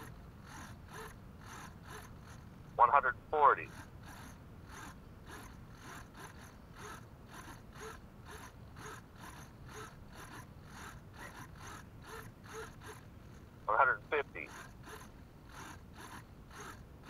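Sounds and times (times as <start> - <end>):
servos whirring: 0.0 - 17.0.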